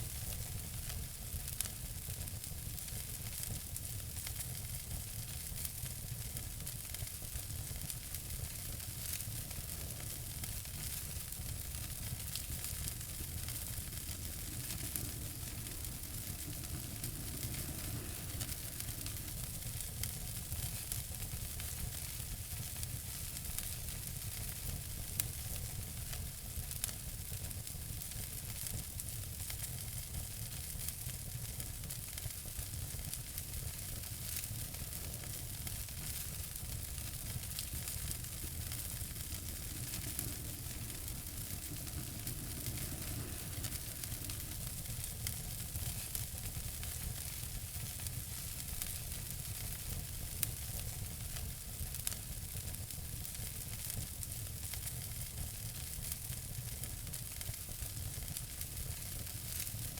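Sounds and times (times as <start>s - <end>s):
fireplace fire crackling: 0.0s - 59.9s
loud pops of fire: 0.0s - 59.9s.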